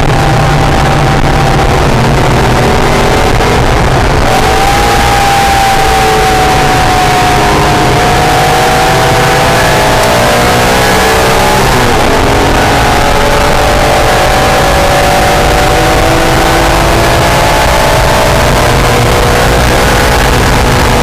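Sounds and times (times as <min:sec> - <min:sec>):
car engine running hard: 0:00.0 - 0:21.0
wind and road noise: 0:00.0 - 0:21.0.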